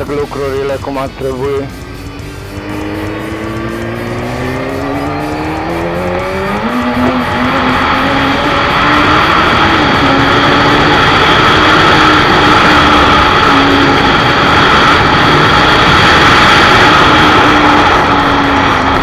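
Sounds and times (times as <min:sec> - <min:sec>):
motorcycle engine running: 0:00.0 - 0:19.0
wind rush: 0:01.2 - 0:19.0.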